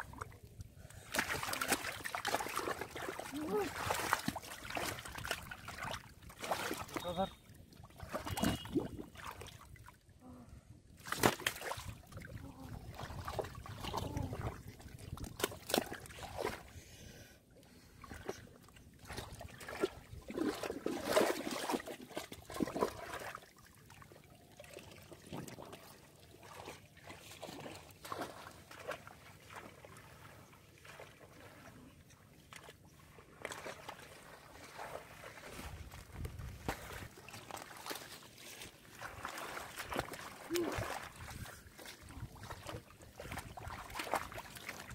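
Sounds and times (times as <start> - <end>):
hands splashing in muddy water: 1.0 - 9.9, 11.0 - 16.7, 18.0 - 24.0, 24.6 - 31.8, 32.4 - 44.9.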